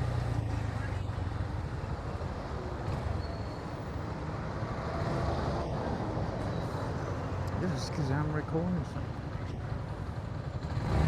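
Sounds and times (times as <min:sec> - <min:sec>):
road wind noise: 0:00.0 - 0:11.0.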